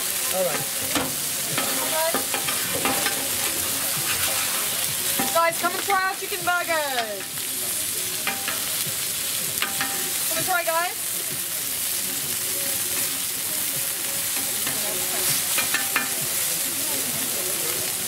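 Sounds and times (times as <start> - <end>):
chicken sizzling on a griddle: 0.0 - 18.0.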